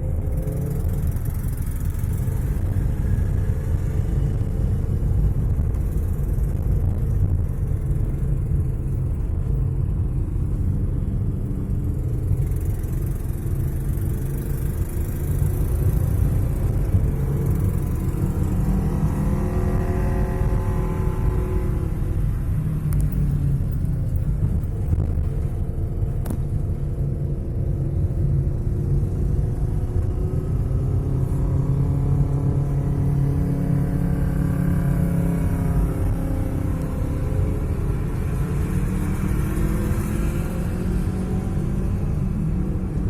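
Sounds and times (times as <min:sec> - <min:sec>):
two-cylinder engine rumbling: 0:00.0 - 0:43.0.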